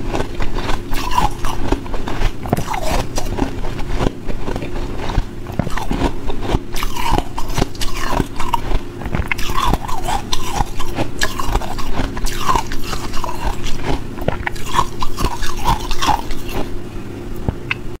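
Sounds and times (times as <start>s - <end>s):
ice crunching in mouth: 0.0s - 16.7s.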